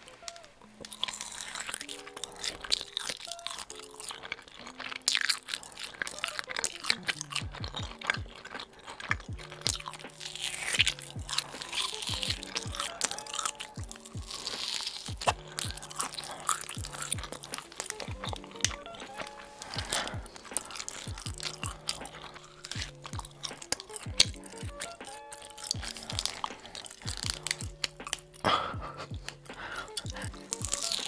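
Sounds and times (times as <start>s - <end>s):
light background music: 0.0s - 31.0s
wet chewing and biting: 0.0s - 31.0s.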